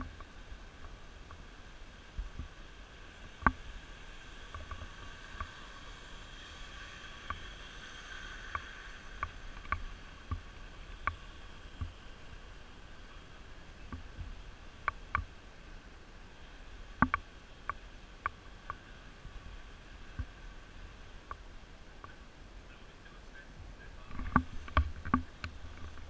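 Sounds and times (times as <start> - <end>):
faint street noise: 0.0 - 26.0.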